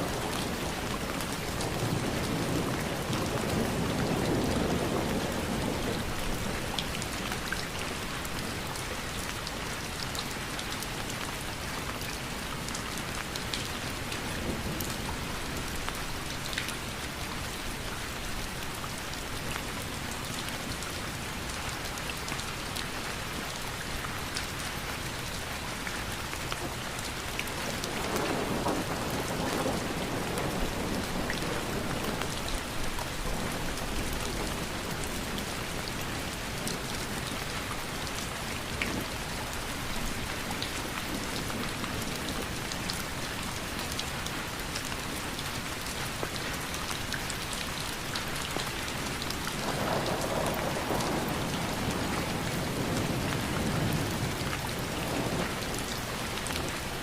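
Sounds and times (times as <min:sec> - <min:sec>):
raindrops ticking on a surface: 0:00.0 - 0:57.0
rainfall: 0:00.0 - 0:57.0.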